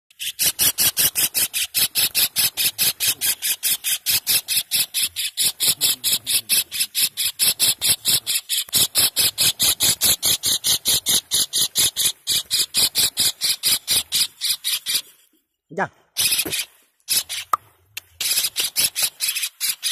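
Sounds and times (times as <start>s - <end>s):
kingfisher calling: 0.1s - 15.1s, 16.2s - 17.6s, 18.2s - 19.9s.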